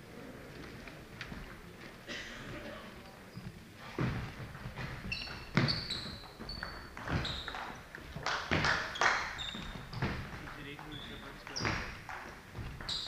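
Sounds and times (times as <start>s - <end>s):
shoes squeaking on wooden floor: 0.5s - 13.0s.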